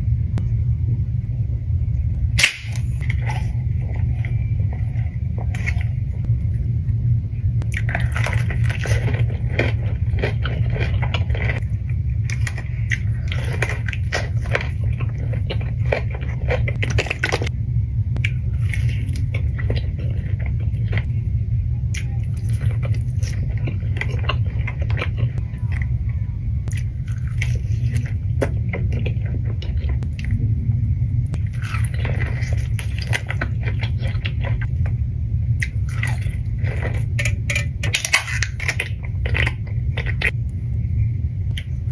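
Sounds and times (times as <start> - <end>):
low hum: 0.0 - 41.9
person chewing crunchy food: 2.3 - 6.7, 7.6 - 17.5, 18.2 - 30.6, 31.3 - 40.4.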